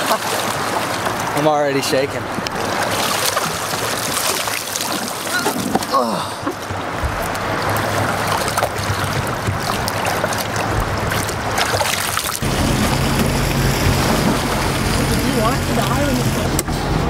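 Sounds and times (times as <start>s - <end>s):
boat engine humming: 0.0s - 17.0s
lake water splashing: 0.0s - 17.0s
wind: 0.0s - 17.0s.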